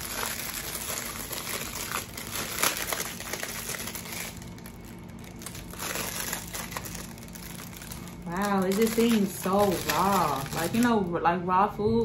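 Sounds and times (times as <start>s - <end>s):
plastic wrap crinkling: 0.0s - 11.2s.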